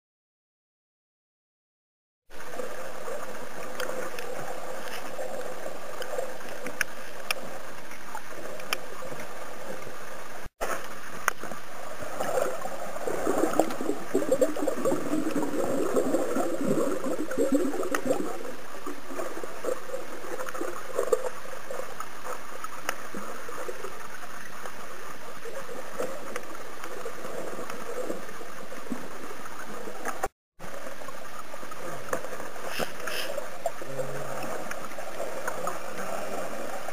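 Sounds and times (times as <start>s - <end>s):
muffled underwater water rush: 2.3s - 36.9s
underwater gurgling and crackling: 2.3s - 36.9s.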